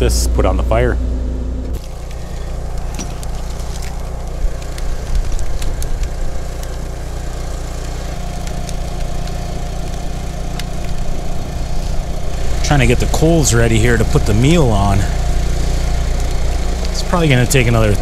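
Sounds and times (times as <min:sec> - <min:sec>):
fire low rumble: 0:00.0 - 0:18.0
campfire crackling and snapping: 0:01.8 - 0:18.0.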